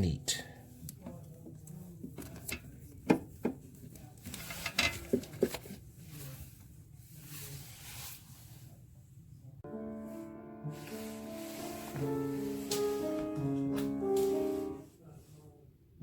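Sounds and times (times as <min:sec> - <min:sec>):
rustling: 0:00.9 - 0:08.9, 0:10.1 - 0:15.0.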